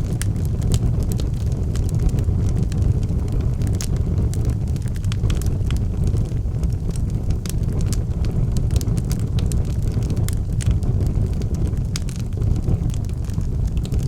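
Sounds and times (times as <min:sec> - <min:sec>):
burning logs crackling and popping: 0:00.0 - 0:14.0
fire flame rumble: 0:00.0 - 0:14.0.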